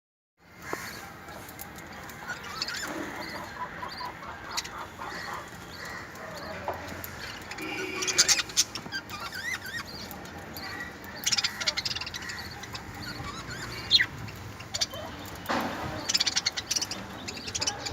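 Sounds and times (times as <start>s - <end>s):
parrots chirping and chattering: 0.5s - 17.9s.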